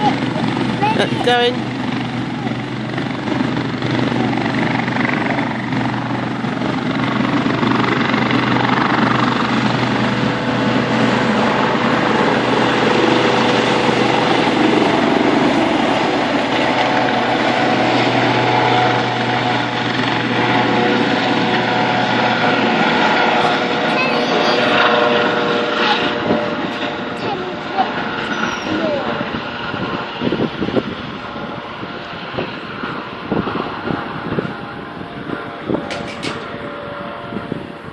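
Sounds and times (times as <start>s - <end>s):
helicopter turbine and rotor: 0.0s - 37.9s.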